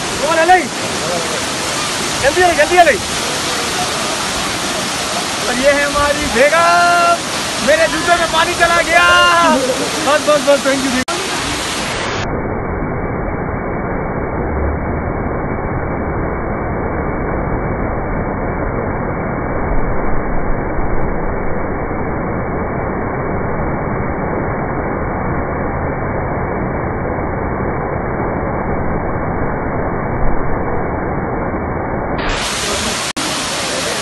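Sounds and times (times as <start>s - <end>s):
waterfall rushing onto rocks: 0.0s - 12.4s, 17.4s - 34.0s.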